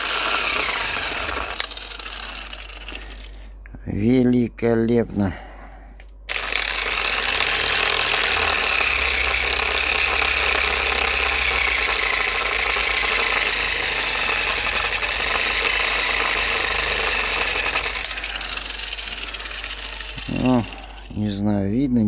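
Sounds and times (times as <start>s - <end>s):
angle grinder motor hum: 0.0s - 3.6s, 6.3s - 21.5s.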